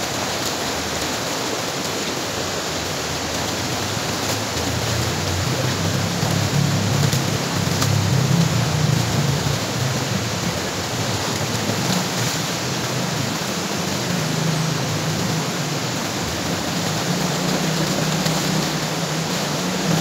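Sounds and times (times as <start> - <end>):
stream running over rocks: 0.0 - 20.0.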